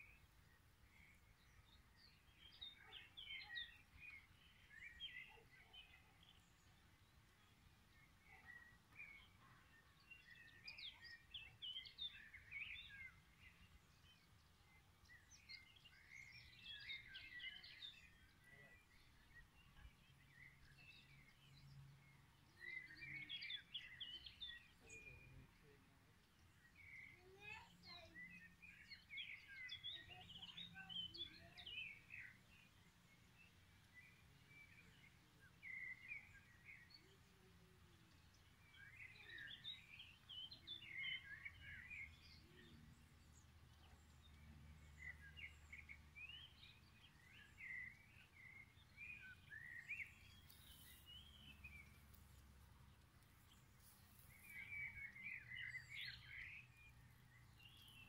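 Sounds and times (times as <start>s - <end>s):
birds chirping faintly: 0.0s - 58.0s.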